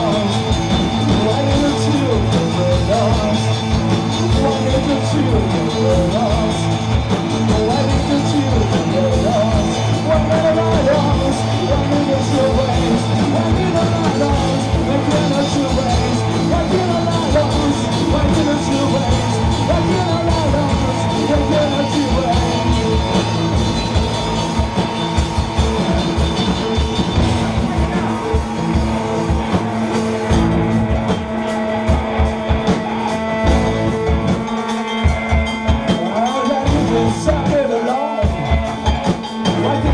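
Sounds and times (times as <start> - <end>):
bass guitars: 0.0 - 39.9
drums: 0.0 - 39.9
electric guitars: 0.0 - 39.9.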